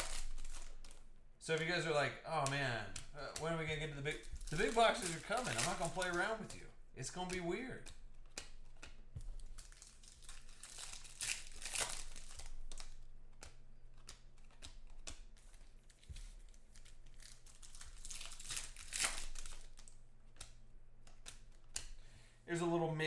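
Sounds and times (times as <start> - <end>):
foil wrappers crinkling and tearing: 0.0 - 22.0.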